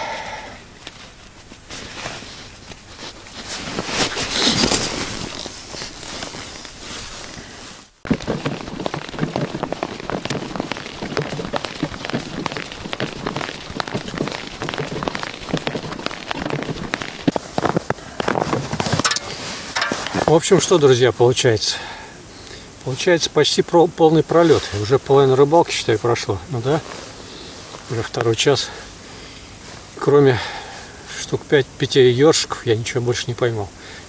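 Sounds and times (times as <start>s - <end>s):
footsteps crunching through snow: 0.8s - 22.0s, 22.8s - 33.7s.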